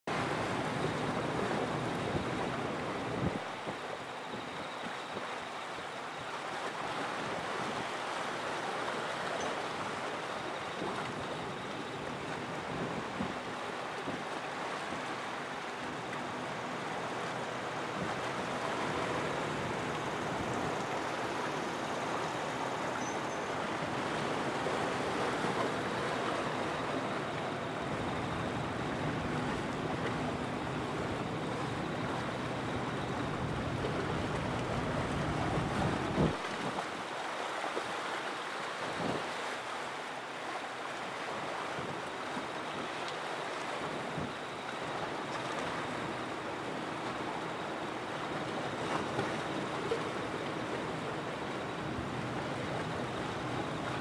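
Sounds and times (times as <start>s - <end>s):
wind and water at shoreline: 0.0s - 54.0s
wind rumble on microphone: 0.1s - 15.2s, 15.8s - 37.2s, 38.8s - 39.4s, 41.2s - 47.7s
faint steady hum: 0.2s - 36.4s, 40.5s - 54.0s.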